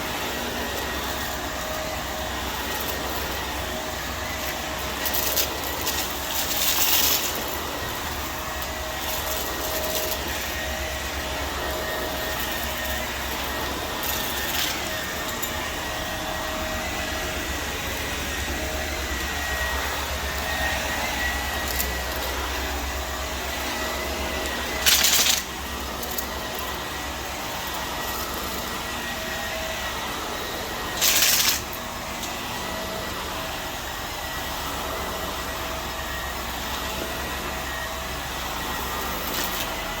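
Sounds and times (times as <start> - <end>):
vacuum cleaner whining: 0.0 - 40.0.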